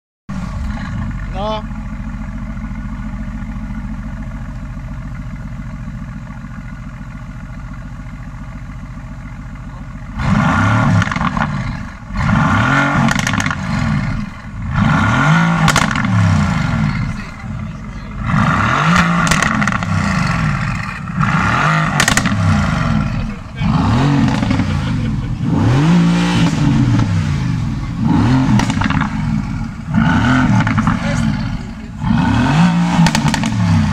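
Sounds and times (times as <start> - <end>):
car engine revving: 0.3 - 6.6, 9.5 - 33.9
car engine idling: 0.3 - 33.9
exhaust crackles: 0.3 - 33.9.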